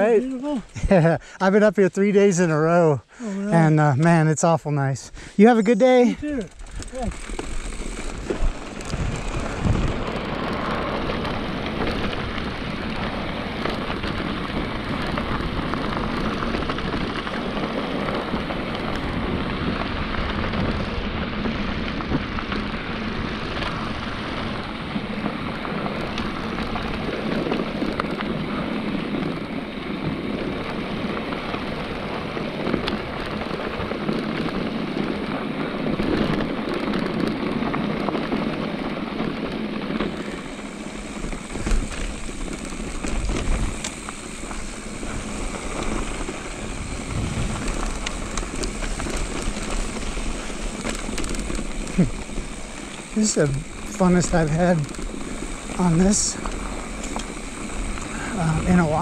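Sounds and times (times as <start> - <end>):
bike clicks and rattles: 0.0 - 4.4, 5.2 - 59.0
tyres on dirt and stones: 5.4 - 59.0.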